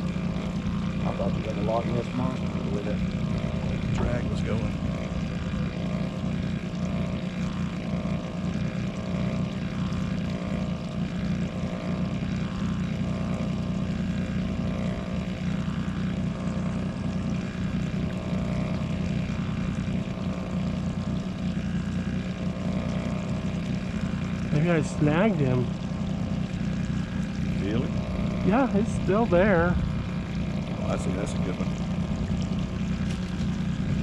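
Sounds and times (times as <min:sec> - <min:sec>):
outboard motor humming: 0:00.0 - 0:34.0.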